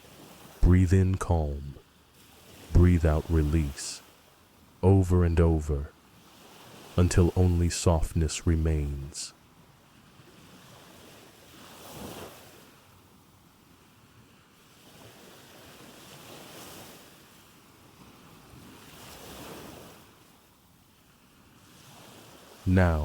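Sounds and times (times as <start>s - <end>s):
ocean waves washing on shore: 0.0s - 23.0s.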